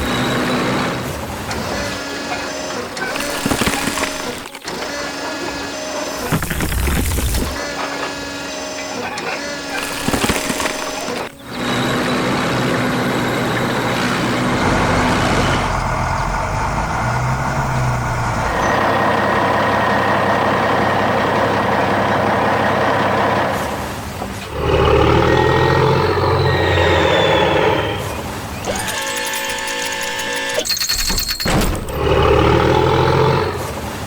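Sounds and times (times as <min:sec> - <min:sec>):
heavy construction machinery noise: 0:00.0 - 0:34.0.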